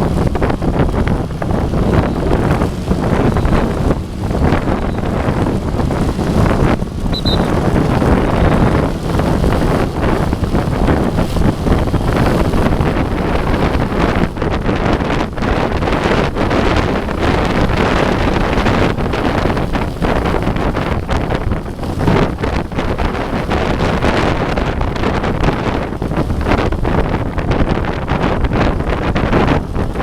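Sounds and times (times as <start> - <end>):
deep steady rumble: 0.0 - 30.0
gusty wind on microphone: 0.0 - 30.0.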